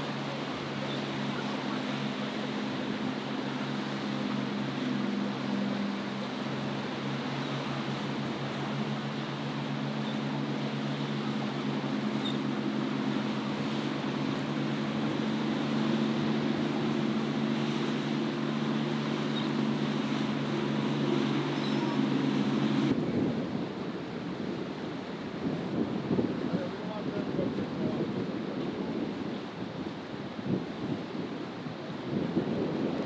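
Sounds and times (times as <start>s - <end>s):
boat engine drone: 0.0s - 33.0s
breaking waves: 0.0s - 33.0s
wind: 0.0s - 33.0s.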